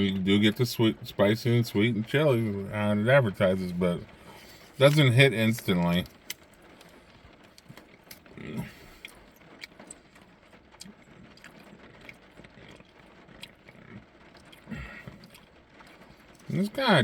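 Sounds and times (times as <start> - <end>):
closed-mouth hum: 0.0 - 17.0.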